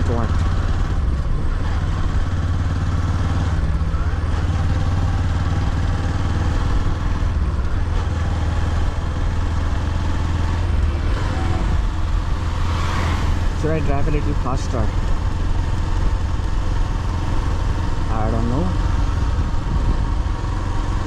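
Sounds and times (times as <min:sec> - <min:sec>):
motorcycle engine running: 0:00.0 - 0:21.0
road noise: 0:00.0 - 0:21.0.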